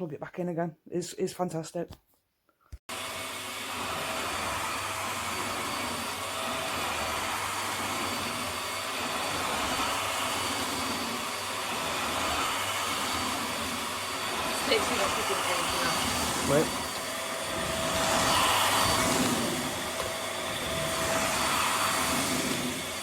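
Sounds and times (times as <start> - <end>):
upright vacuum cleaner running: 2.9 - 23.0.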